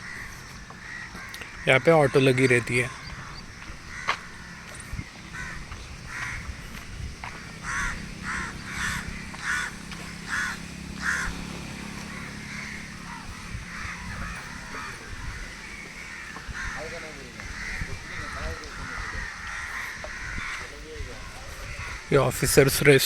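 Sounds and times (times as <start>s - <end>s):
crows cawing: 0.0s - 23.0s.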